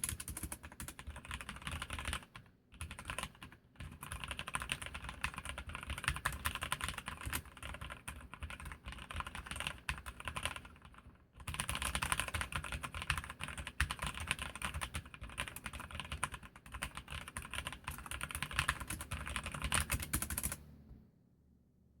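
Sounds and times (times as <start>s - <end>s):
fast typing on mechanical keyboard: 0.0s - 20.6s.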